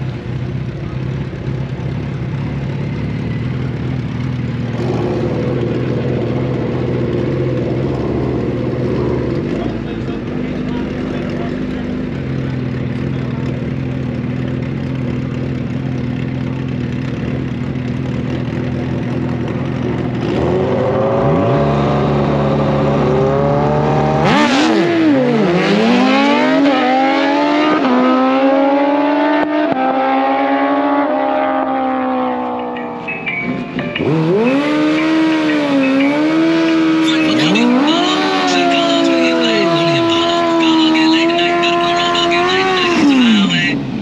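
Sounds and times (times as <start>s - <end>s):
motorcycle engines revving: 0.0s - 44.0s.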